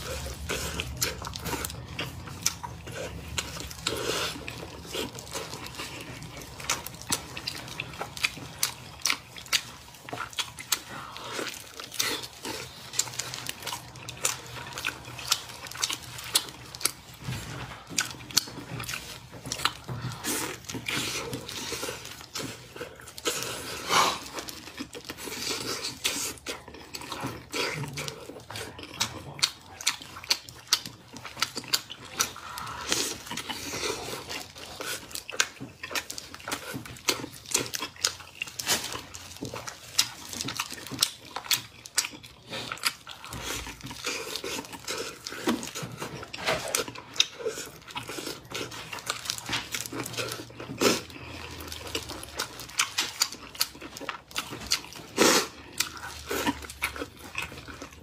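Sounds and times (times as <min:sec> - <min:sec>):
wet chewing and gnawing: 0:00.0 - 0:58.0.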